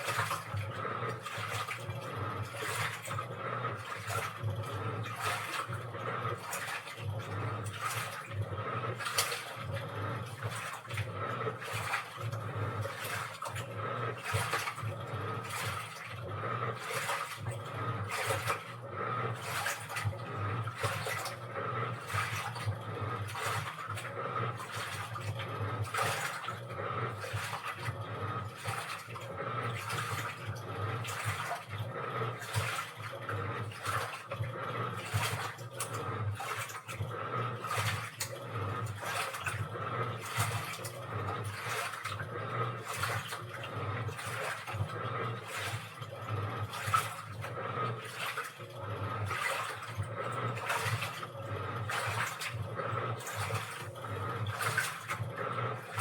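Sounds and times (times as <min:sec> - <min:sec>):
washing machine motor hum: 0:00.0 - 0:56.0
water sloshing in washing machine: 0:00.0 - 0:56.0.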